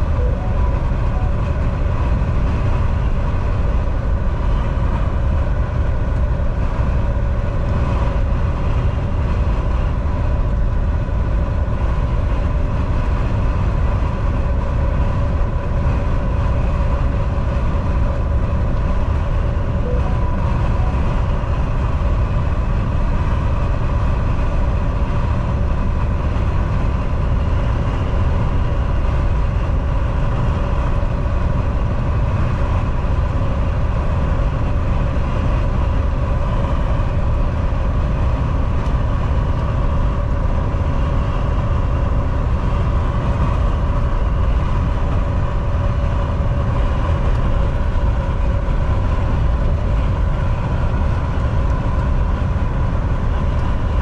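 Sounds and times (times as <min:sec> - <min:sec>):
faint steady whine: 0:00.0 - 0:54.0
road rumble: 0:00.0 - 0:54.0
truck engine drone: 0:00.0 - 0:54.0.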